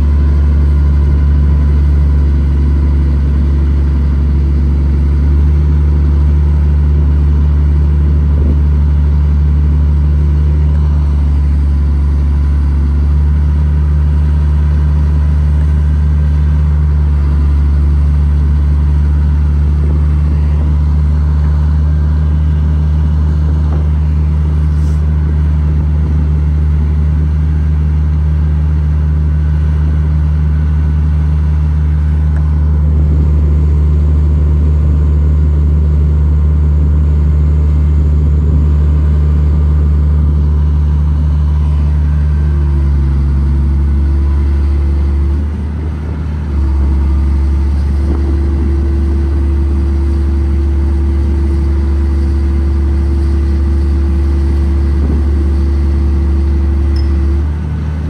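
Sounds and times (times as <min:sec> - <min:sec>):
diesel engine droning: 0:00.0 - 0:58.0
hydraulics raising boom: 0:00.0 - 0:58.0.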